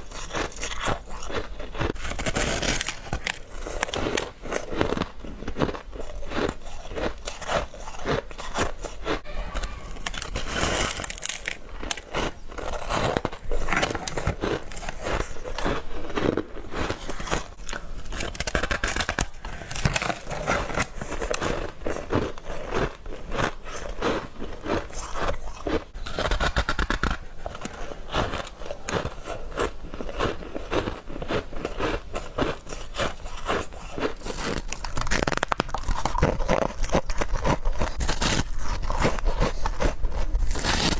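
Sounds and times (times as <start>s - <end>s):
crunching ice while chewing: 0.0s - 40.9s.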